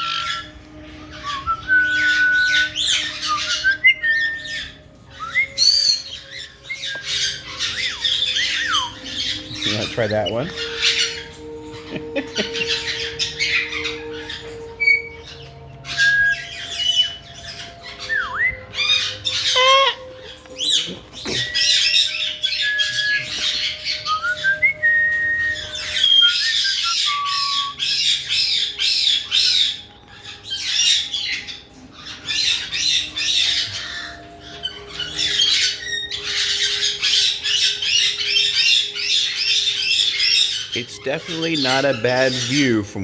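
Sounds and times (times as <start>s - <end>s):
parrots squawking: 0.0s - 43.0s.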